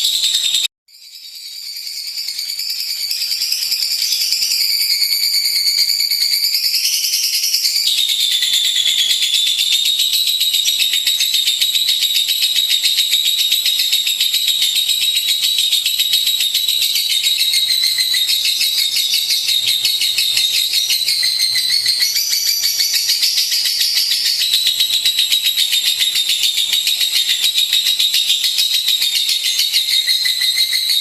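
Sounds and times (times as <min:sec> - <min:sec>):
bird high-pitched rapid trill: 0:00.0 - 0:31.0.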